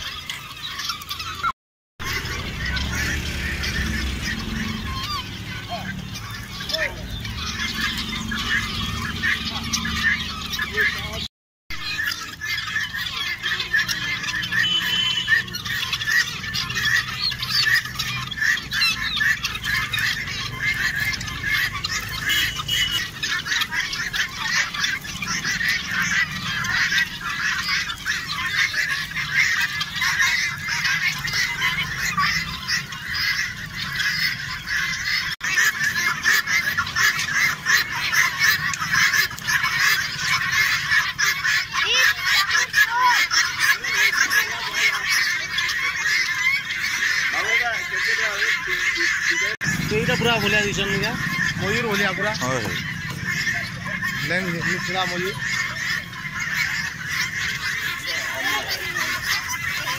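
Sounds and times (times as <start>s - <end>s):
flock of guineafowl calling: 0.0s - 59.9s.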